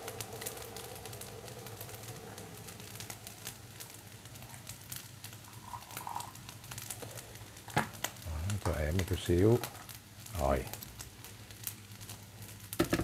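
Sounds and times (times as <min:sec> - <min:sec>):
rice frying crackle: 0:00.0 - 0:13.0.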